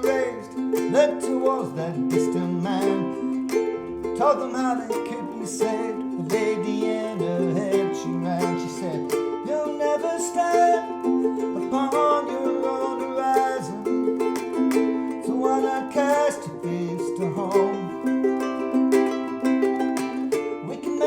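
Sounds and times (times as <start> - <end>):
ukulele plucked notes and chords: 0.0 - 21.0.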